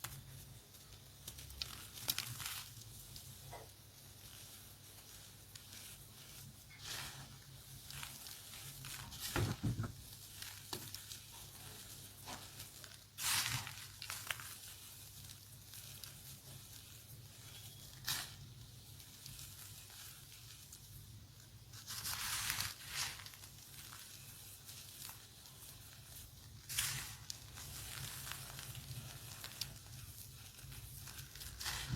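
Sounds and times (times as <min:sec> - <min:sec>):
chalk crumbling and crunching: 0:00.0 - 0:31.9.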